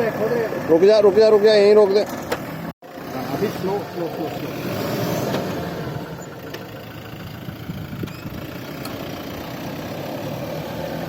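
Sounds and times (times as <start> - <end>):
diesel engine at low revs: 0.0 - 11.0.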